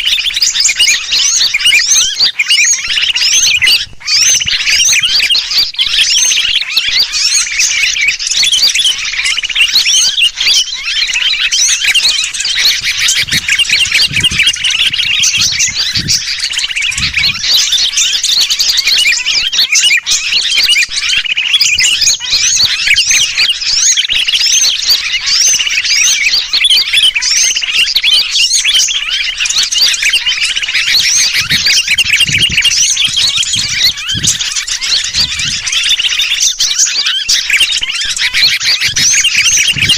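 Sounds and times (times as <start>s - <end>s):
bird distress calls: 0.0s - 39.9s
small birds chattering: 0.0s - 39.9s.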